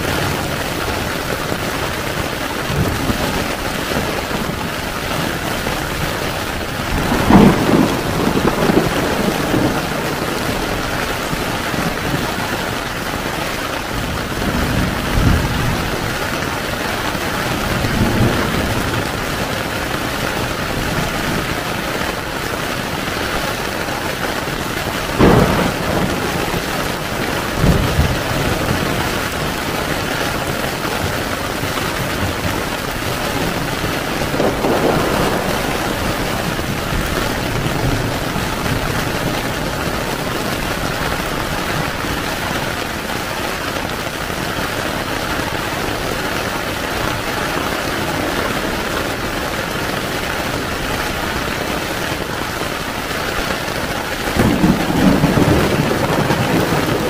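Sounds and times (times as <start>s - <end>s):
heavy rain on a tent: 0.0s - 57.0s.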